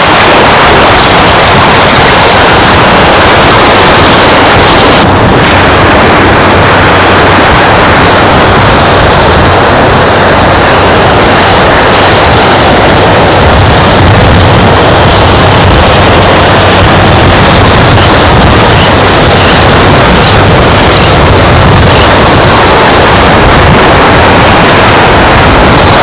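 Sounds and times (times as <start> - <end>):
surf on a beach: 0.0 - 26.0
wind on microphone: 0.0 - 26.0.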